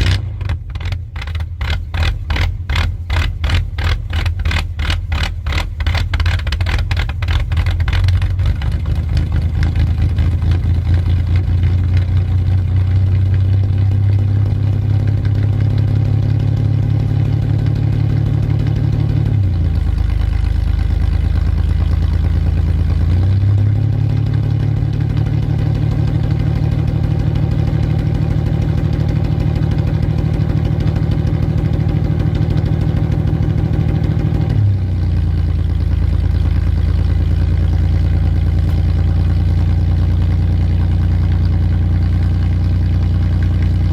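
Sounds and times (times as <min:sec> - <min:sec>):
pickup engine cold start and idle: 0:00.0 - 0:43.9.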